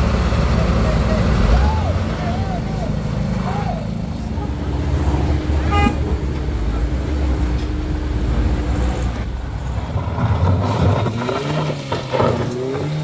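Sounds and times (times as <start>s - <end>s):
car engine revving: 0.0s - 13.0s
truck engine running low: 0.0s - 13.0s.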